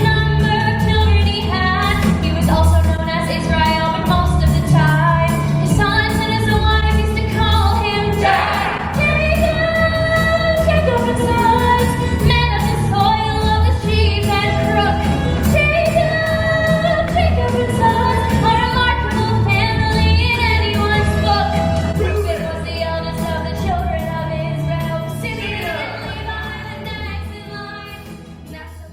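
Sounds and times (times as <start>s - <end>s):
band with pulsing bass: 0.0s - 27.3s
women singing: 0.0s - 28.9s.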